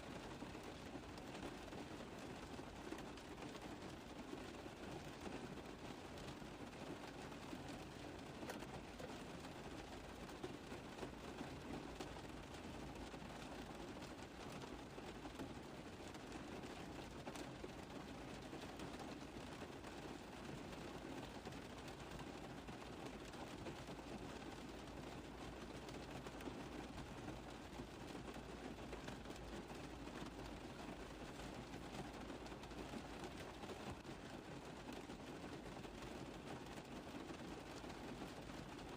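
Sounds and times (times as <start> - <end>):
rain tapping on a car roof: 0.0 - 38.9.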